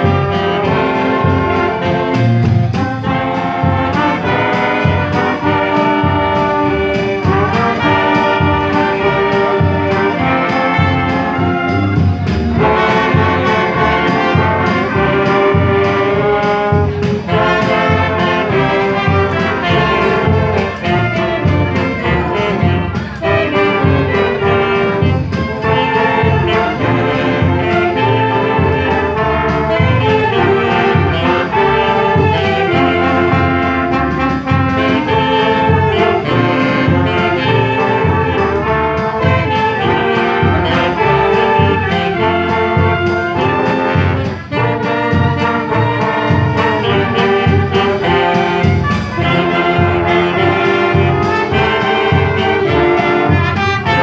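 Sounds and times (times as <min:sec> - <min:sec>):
bass pulse: 0:00.0 - 0:54.0
wind band playing christmas music: 0:00.0 - 0:54.0.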